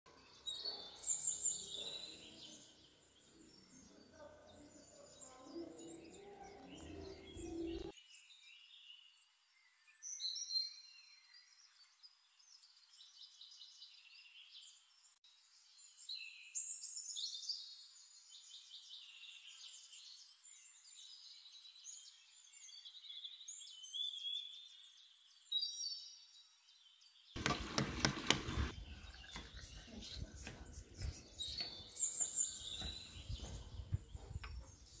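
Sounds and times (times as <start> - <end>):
songbirds chirping: 0.1 - 35.0.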